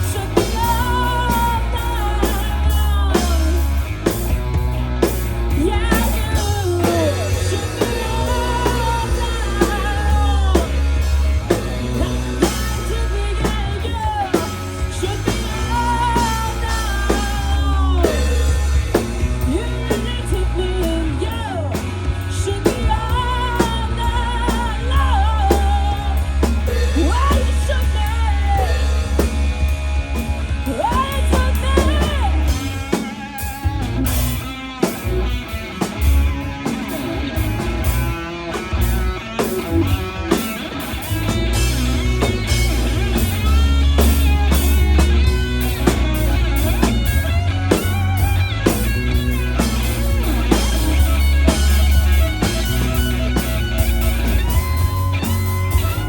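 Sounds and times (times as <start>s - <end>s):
bending guitar lines: 0.0s - 56.0s
live rock band playing: 0.0s - 56.0s.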